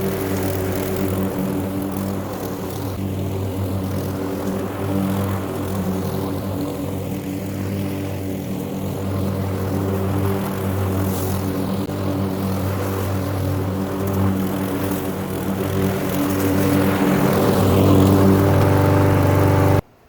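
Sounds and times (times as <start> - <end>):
lawn mower engine running: 0.0 - 19.9.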